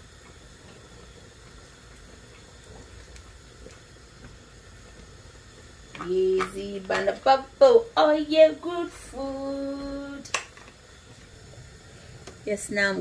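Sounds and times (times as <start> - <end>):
soup bubbling in a pot: 0.0 - 13.0.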